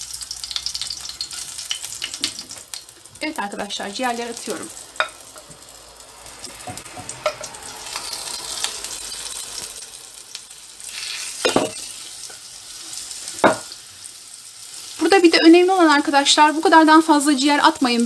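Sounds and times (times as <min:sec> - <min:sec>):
liver sizzling in a frying pan: 0:00.0 - 0:18.0.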